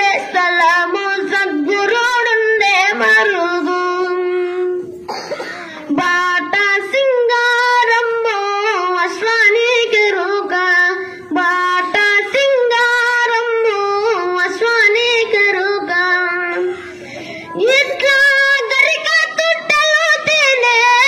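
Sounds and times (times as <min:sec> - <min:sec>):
boy singing solo: 0:00.0 - 0:04.9, 0:05.6 - 0:21.0.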